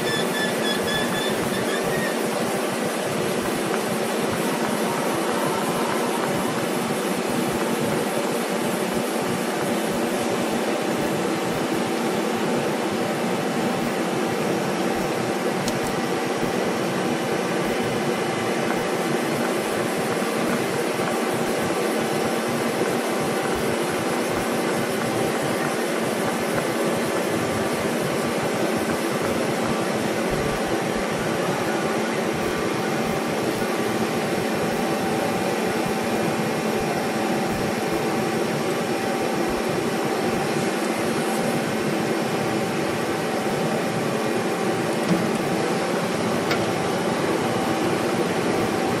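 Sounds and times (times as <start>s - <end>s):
lathe machine hum: 0.0s - 49.0s
steady machine tones: 0.0s - 49.0s.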